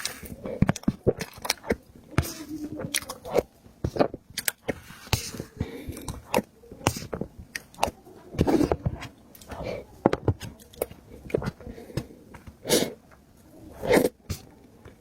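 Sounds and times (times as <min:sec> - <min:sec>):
chewing sticky food: 0:00.0 - 0:15.0.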